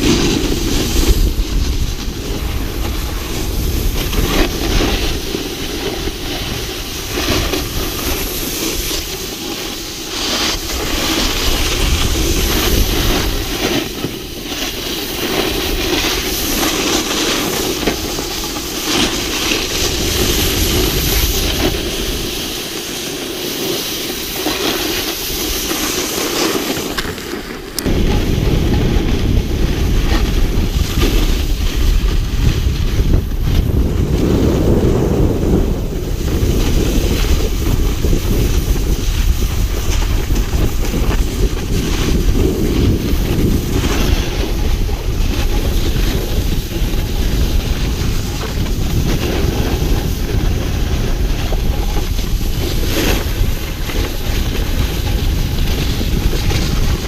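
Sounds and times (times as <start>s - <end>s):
hiss of skis on snow: 0.0s - 57.0s
low wind rumble: 0.0s - 57.0s
wind buffeting microphone: 0.0s - 57.0s.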